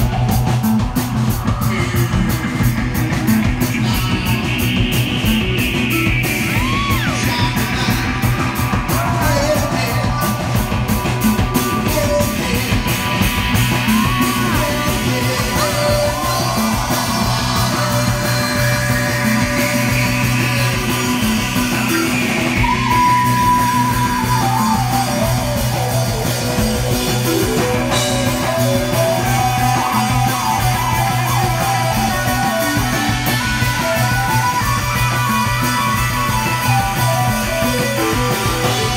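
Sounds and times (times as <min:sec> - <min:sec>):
bass guitar: 0:00.0 - 0:38.9
drums: 0:00.0 - 0:38.9
electric guitar: 0:00.0 - 0:38.9.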